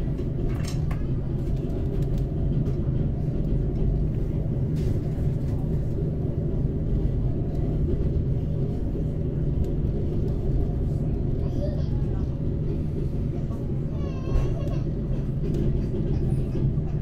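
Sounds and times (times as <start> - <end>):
train running with low rumble: 0.0 - 17.0.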